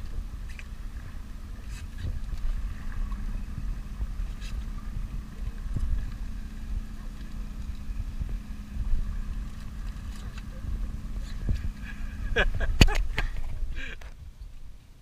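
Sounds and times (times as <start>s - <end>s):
outboard engine idling: 0.0s - 15.0s
wind rumble on microphone: 0.0s - 15.0s.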